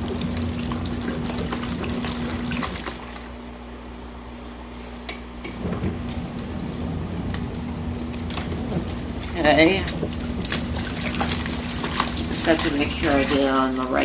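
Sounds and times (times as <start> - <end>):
water churning: 0.0 - 3.5, 5.6 - 14.0
washing machine motor humming: 0.0 - 14.0.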